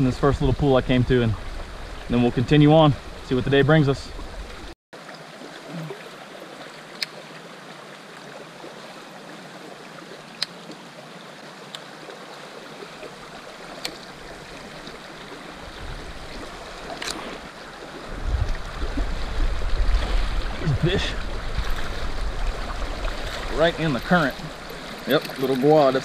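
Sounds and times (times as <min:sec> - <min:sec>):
river current rushing: 0:00.7 - 0:26.0.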